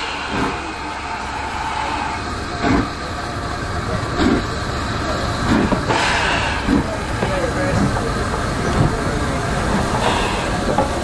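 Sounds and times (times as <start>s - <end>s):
steam locomotive rumbling past: 0.0s - 11.0s.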